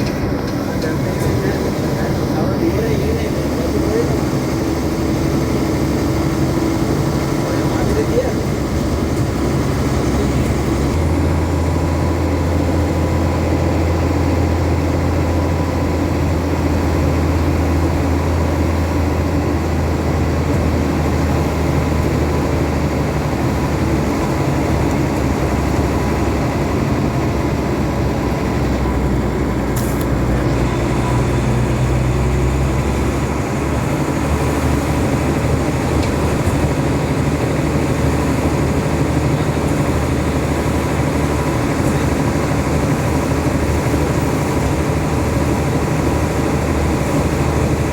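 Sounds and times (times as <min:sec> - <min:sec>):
engine drone and road noise: 0:00.0 - 0:47.9.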